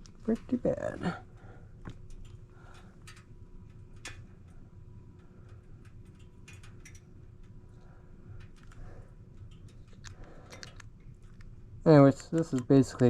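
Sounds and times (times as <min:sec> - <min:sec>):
low steady hum: 0:00.0 - 0:13.0
light clicks and taps: 0:01.8 - 0:13.0.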